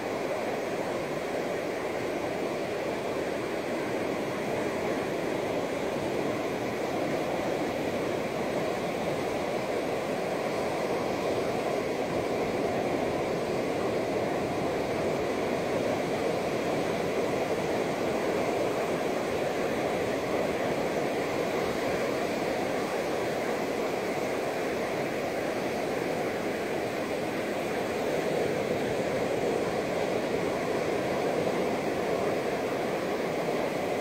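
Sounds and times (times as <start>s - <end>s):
small waves breaking on beach: 0.0s - 34.0s.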